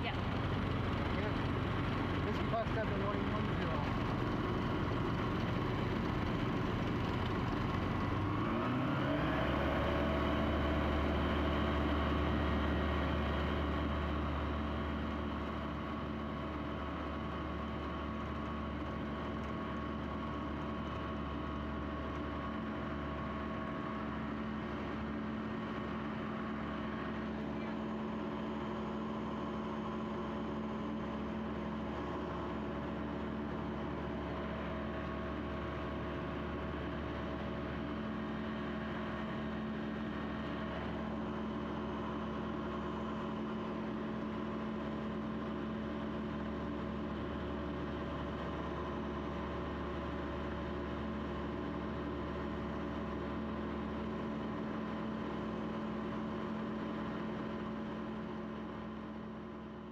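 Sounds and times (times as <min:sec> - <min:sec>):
aircraft engine and propeller droning: 0:00.0 - 0:59.8.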